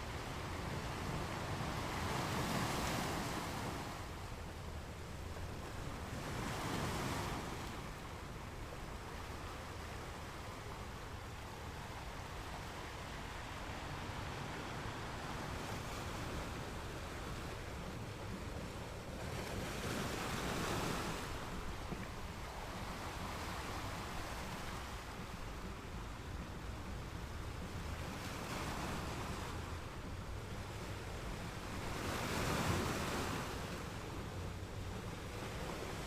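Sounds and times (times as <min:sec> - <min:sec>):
ocean waves washing: 0:00.0 - 0:36.0
waves breaking: 0:00.0 - 0:36.0.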